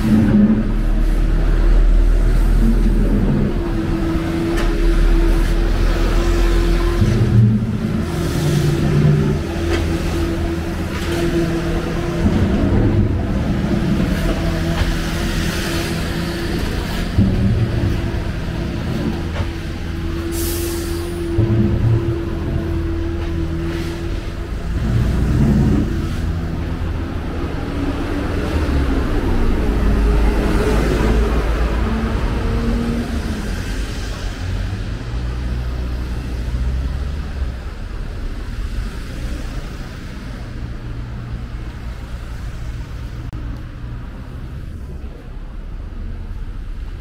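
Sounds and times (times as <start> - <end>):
vehicles passing close by: 0.0 - 47.0.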